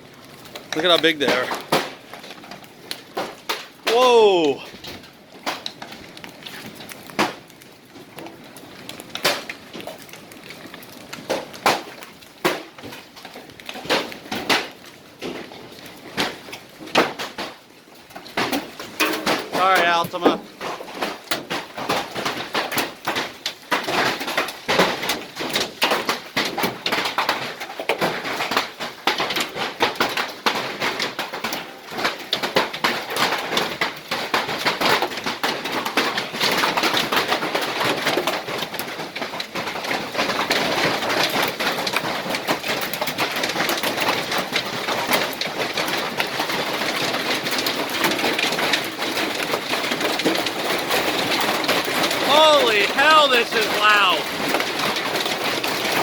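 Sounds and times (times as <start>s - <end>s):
hailstones pelting down: 0.0s - 56.0s.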